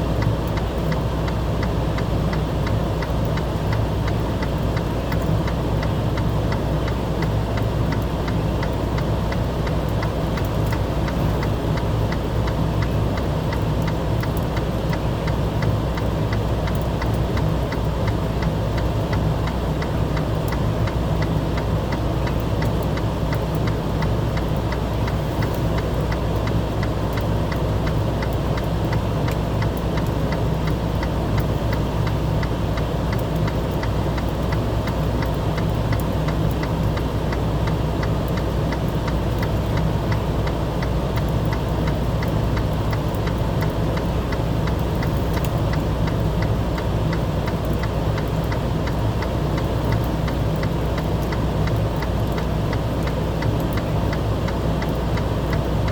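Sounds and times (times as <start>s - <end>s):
engine humming and ticking: 0.0s - 55.9s.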